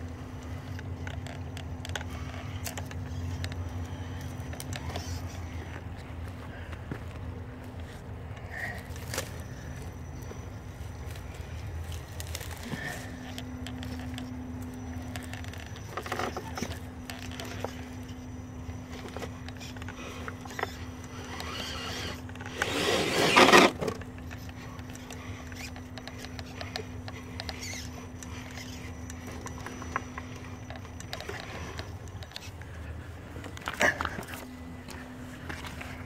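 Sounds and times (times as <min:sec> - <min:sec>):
electric motor whining: 0:00.0 - 0:36.0.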